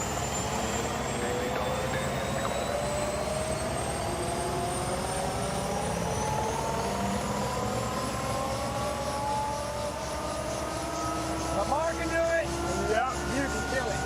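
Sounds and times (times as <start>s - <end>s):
helicopter rotor throb: 0.0s - 14.0s
helicopter turbine whine: 0.0s - 14.0s.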